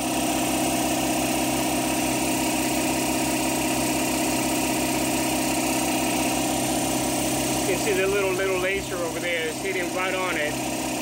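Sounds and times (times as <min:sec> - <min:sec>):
air compressor running: 0:00.0 - 0:11.0.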